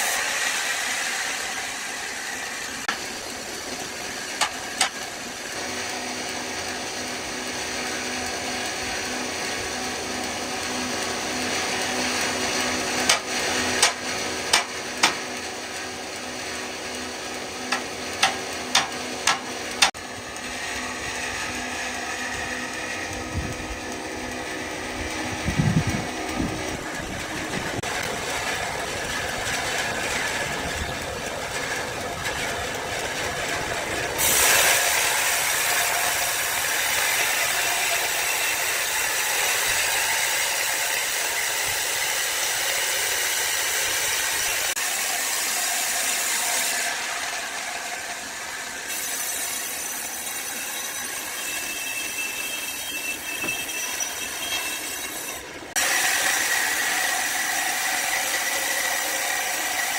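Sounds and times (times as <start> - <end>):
woodworking machine cutting wood: 0.0 - 59.9.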